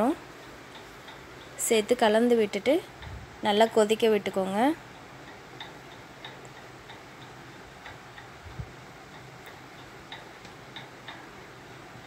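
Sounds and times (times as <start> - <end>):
soft steady hiss: 0.0 - 12.0.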